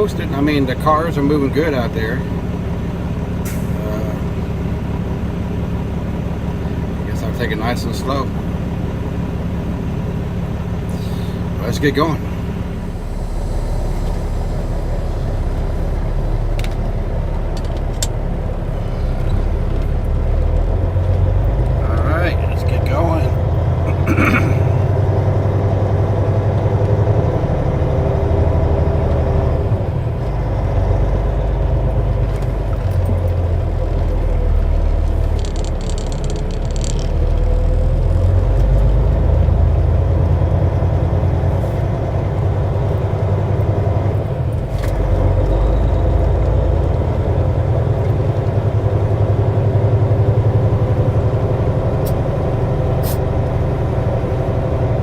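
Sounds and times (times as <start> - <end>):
truck diesel engine rumbling: 0.0 - 55.0.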